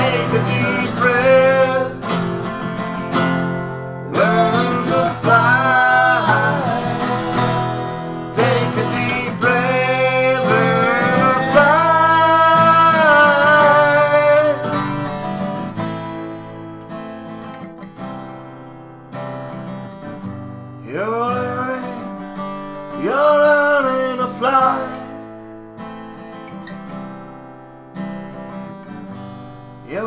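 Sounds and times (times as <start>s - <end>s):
acoustic guitars strumming: 0.0s - 30.0s.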